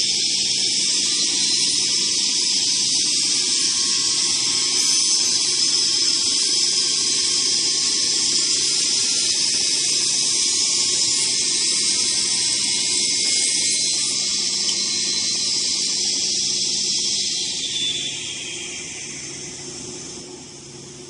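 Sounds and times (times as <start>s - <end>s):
saw machine hissing: 0.0s - 21.0s.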